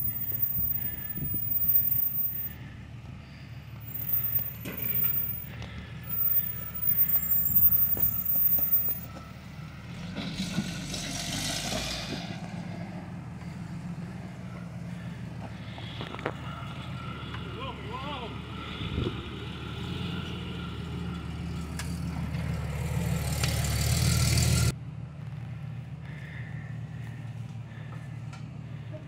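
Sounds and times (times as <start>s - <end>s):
jeep engine revving: 0.0s - 27.9s.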